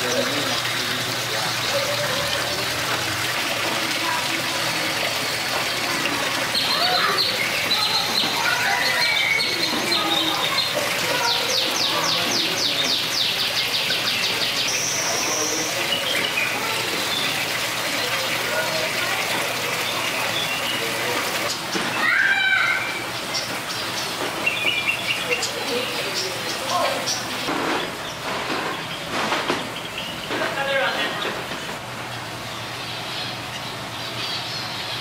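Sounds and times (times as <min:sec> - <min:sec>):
running water: 0:00.0 - 0:35.0
small birds chirping: 0:00.0 - 0:35.0.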